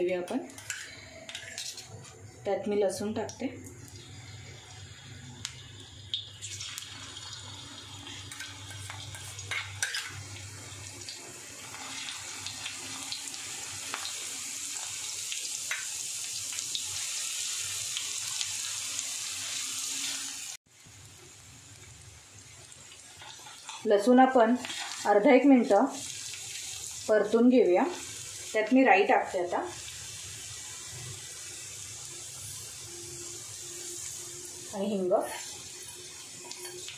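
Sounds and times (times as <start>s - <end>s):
garlic sizzling in hot oil: 0.0s - 36.9s.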